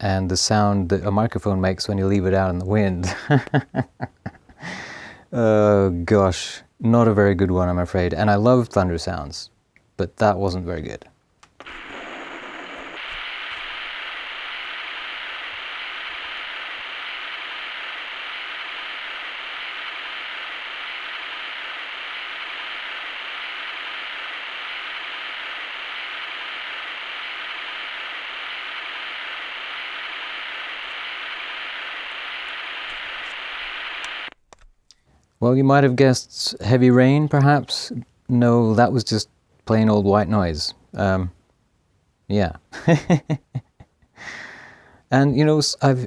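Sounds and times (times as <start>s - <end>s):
white noise hiss from small speaker: 0.0s - 34.4s, 35.1s - 43.9s, 44.8s - 46.0s.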